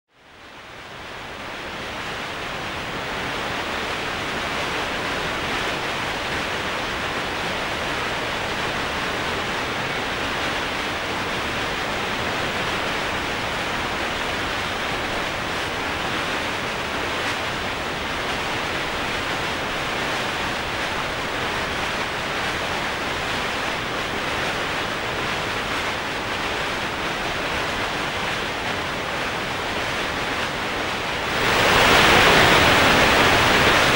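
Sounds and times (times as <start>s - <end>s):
white water rushing: 0.2s - 33.9s.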